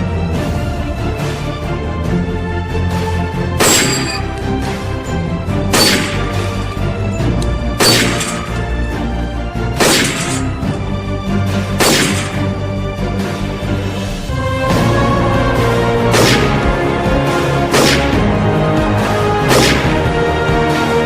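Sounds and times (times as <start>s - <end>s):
theme music sustained tones: 0.0s - 21.0s.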